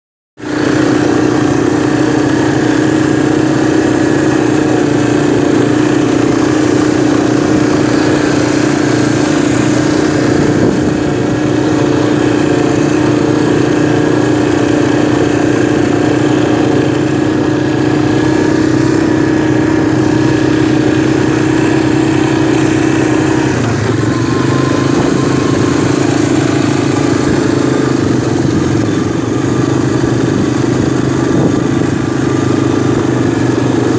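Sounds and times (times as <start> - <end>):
atv engine running: 0.4 - 33.9.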